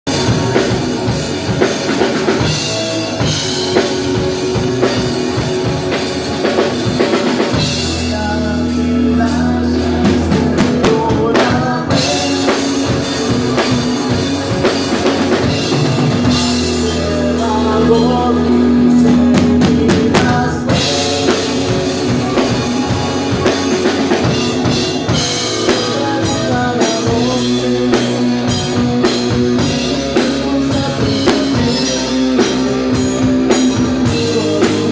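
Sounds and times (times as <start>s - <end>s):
drum kit beating: 0.0s - 34.9s
rock band playing: 0.0s - 34.9s.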